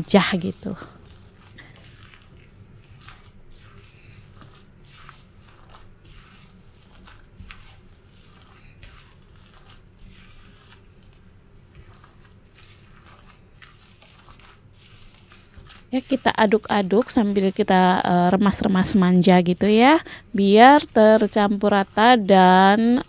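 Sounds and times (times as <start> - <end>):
hands squeezing wet batter: 0.0 - 23.0.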